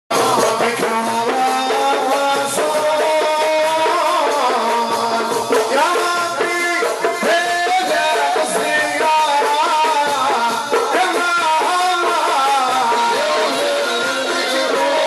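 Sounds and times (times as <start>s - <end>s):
frame drums with jingles: 0.1s - 15.0s
men singing: 0.1s - 15.0s.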